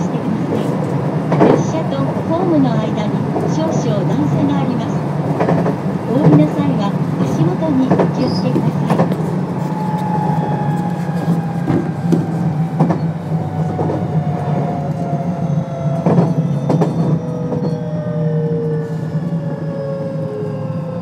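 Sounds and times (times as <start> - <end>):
steady train rumble: 0.0 - 21.0.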